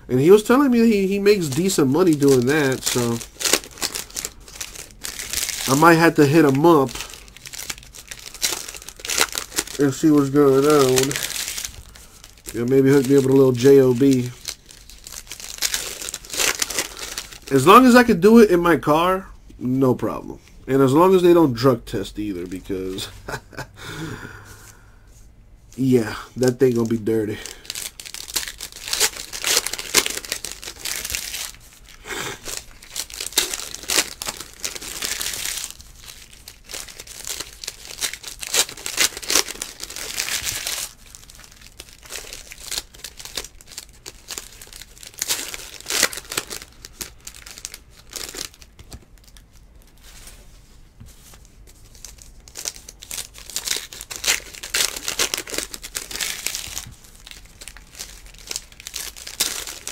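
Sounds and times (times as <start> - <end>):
foil wrappers crinkling: 0.1 - 18.4, 25.8 - 50.4, 51.2 - 59.9.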